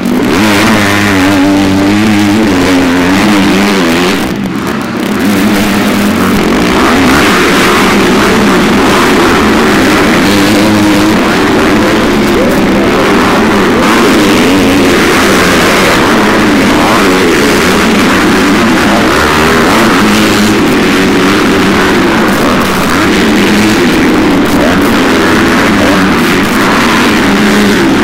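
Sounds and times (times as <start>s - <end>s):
motocross engines revving: 0.0s - 28.0s.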